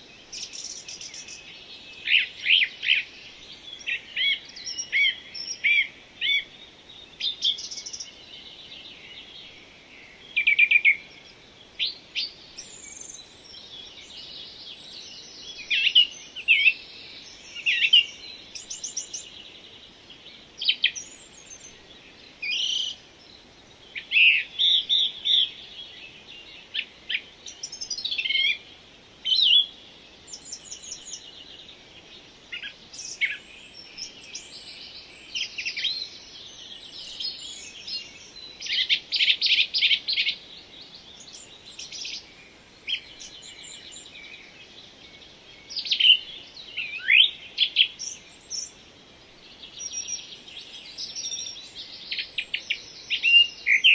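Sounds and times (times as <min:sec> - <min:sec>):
birds singing and calling: 0:00.0 - 0:53.9
faint hiss: 0:00.0 - 0:53.9.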